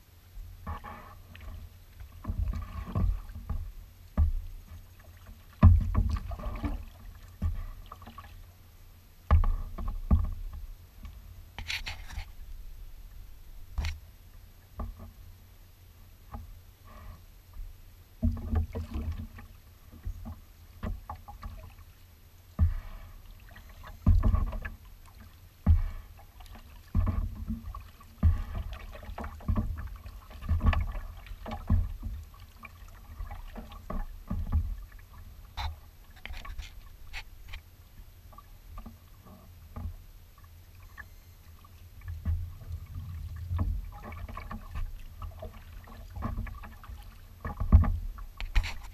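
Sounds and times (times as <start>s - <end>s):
paddle strokes splashing: 0.6s - 8.6s, 9.3s - 12.7s, 18.2s - 48.9s
water slapping against hull: 0.6s - 8.6s, 9.2s - 12.7s, 17.6s - 48.9s.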